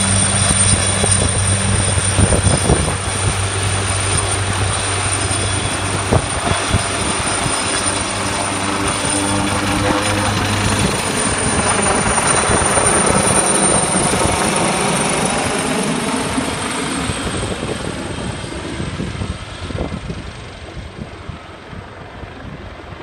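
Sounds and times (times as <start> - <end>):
helicopter rotor and turbine: 0.0 - 23.0.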